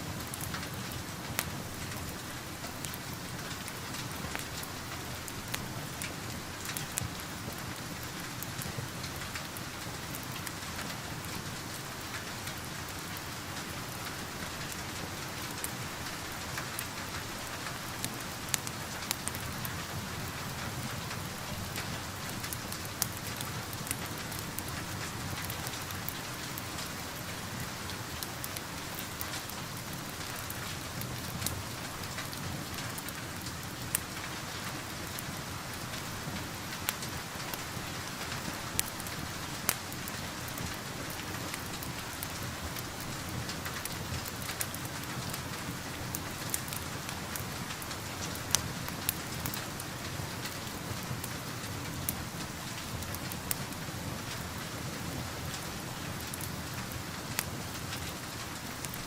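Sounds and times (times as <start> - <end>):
rain pattering: 0.0 - 59.0
wood fire crackling: 0.1 - 59.0.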